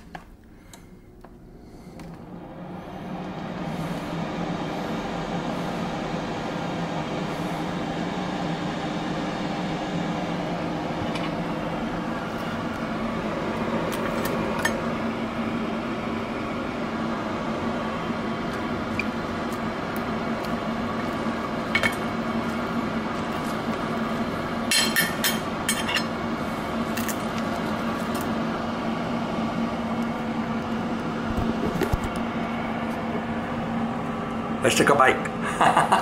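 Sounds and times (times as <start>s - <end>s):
kitchen appliance humming: 0.0s - 36.0s.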